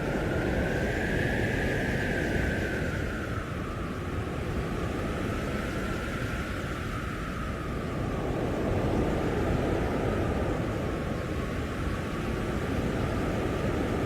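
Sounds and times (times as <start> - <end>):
blizzard wind gusting: 0.0 - 14.0
faint high wind howl: 0.0 - 14.0.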